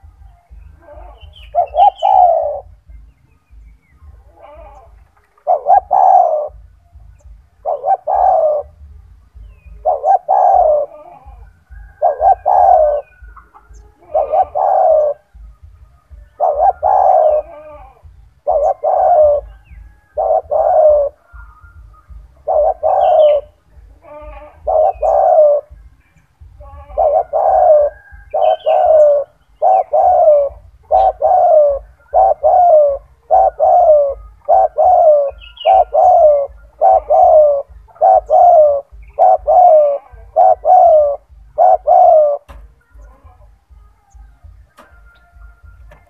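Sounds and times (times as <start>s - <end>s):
dove cooing: 0.0s - 46.0s.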